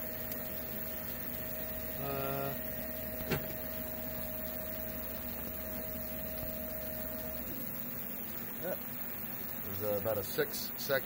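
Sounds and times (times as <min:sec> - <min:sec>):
test bench humming: 0:00.0 - 0:11.0
thin steady tone: 0:00.0 - 0:11.0.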